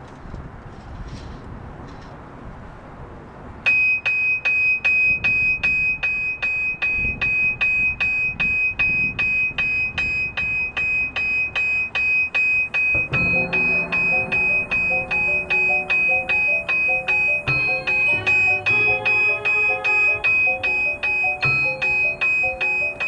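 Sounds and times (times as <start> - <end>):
bell-like keyboard percussion notes: 3.7 - 23.0.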